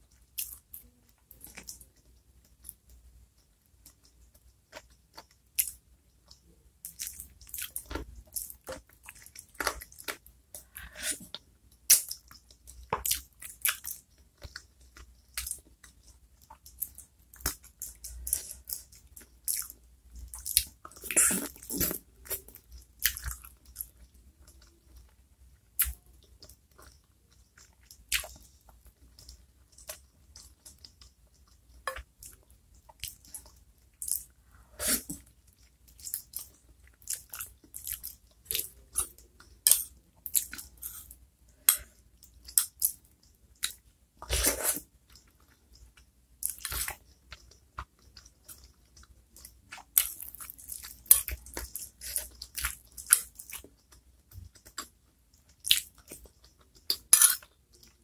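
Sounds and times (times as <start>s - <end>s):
close chewing with wet mouth smacks: 1.4s - 34.3s, 41.7s - 58.0s.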